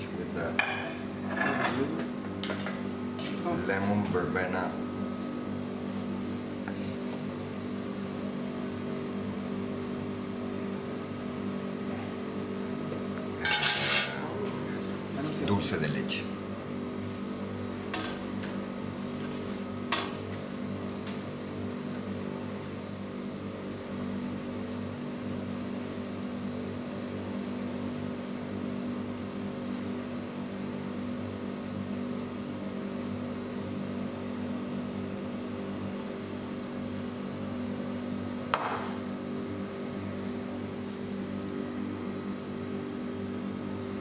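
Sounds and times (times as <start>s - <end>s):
hum of kitchen machinery: 0.0s - 44.0s.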